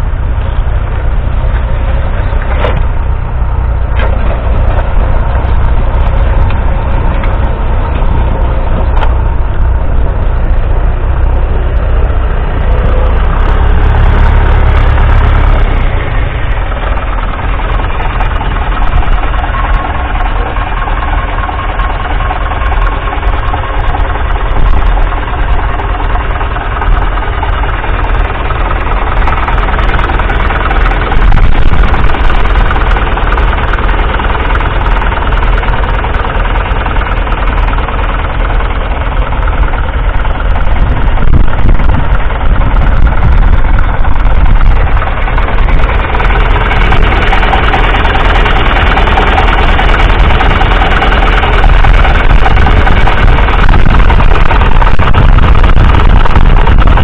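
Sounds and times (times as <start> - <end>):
diesel tractor engine idling: 0.0 - 57.0.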